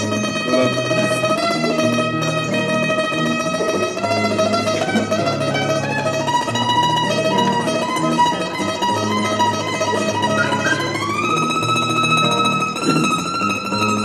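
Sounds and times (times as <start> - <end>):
acoustic guitar low notes: 0.0 - 14.0
charango strummed rapidly: 0.0 - 14.0.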